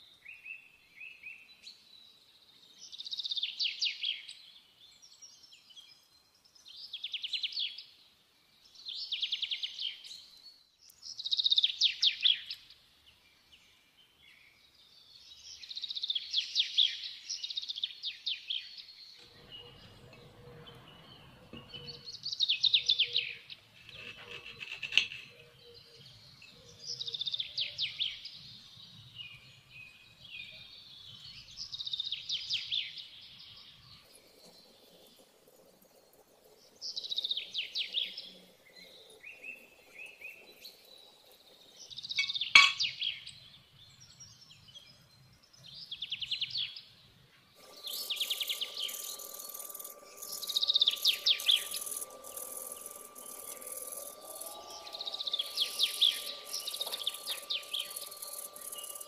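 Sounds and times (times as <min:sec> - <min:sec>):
birds singing trills: 0:00.0 - 0:59.0.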